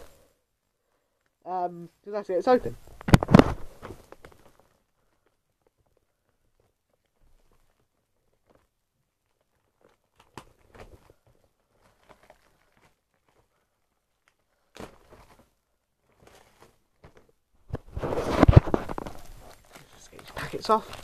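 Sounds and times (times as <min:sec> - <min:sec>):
packaging crinkling and tapping: 0:02.8 - 0:21.0.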